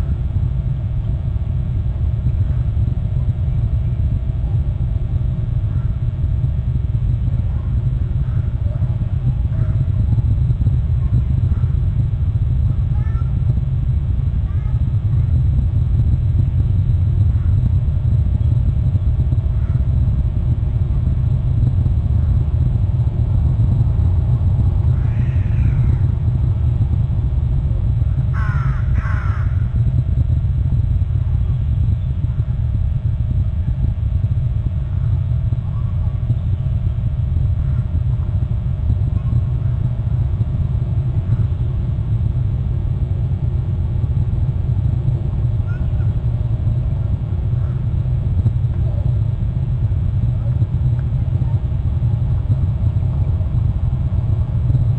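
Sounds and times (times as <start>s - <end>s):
low rumble: 0.0s - 54.9s.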